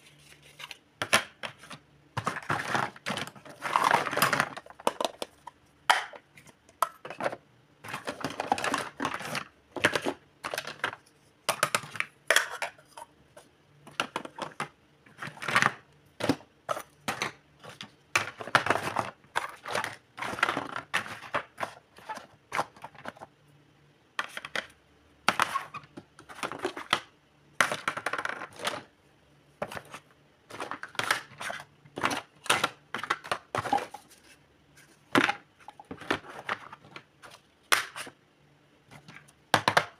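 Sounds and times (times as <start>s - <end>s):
plastic toy pieces clattering: 0.4s - 6.2s, 6.8s - 13.0s, 13.9s - 23.3s, 24.2s - 28.9s, 29.6s - 34.2s, 35.1s - 38.1s.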